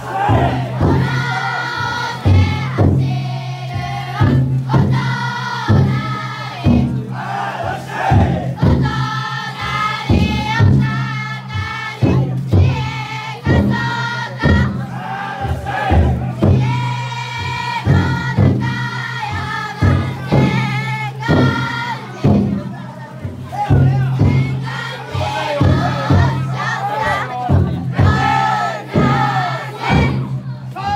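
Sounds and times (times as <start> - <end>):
people chanting in unison: 0.0 - 30.9
taiko drum beats: 0.0 - 30.9.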